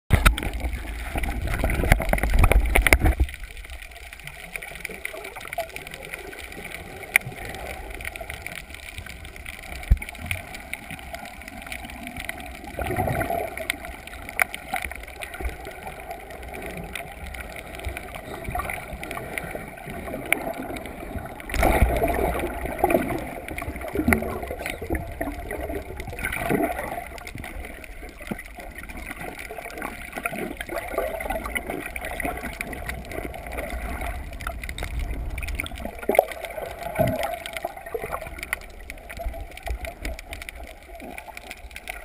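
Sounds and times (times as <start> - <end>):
small clicks and bubbles: 0.1 - 42.0
underwater water rushing: 0.1 - 42.0.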